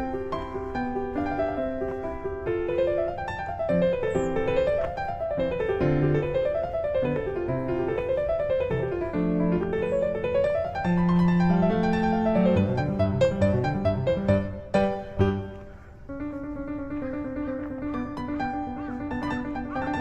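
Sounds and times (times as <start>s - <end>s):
rippling piano music: 0.0s - 20.0s.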